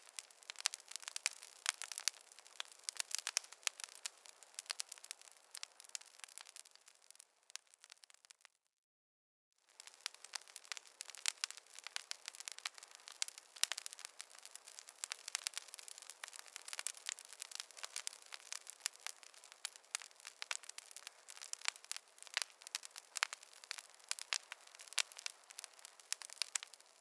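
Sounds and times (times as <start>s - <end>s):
campfire crackling and popping: 0.0s - 8.5s, 9.6s - 27.0s.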